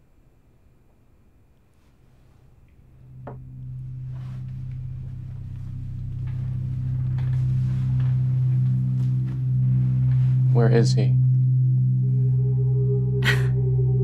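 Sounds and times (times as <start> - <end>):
faint higher tones: 2.4 - 14.0
low film score drone: 2.7 - 14.0.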